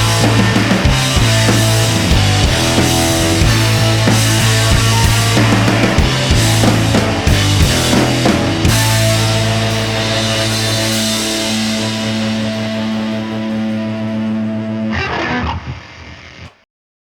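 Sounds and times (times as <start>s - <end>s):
drum hits: 0.0s - 13.9s
distorted electric guitar: 0.0s - 16.6s.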